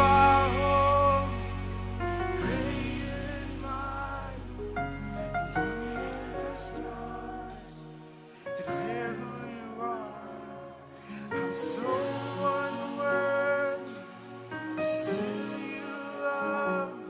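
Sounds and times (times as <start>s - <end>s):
worship music with singing: 0.0s - 17.0s.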